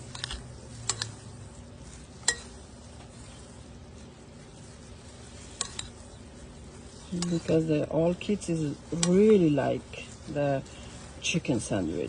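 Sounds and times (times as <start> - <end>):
food being stirred: 0.0 - 12.0
steady low hum: 0.0 - 12.0.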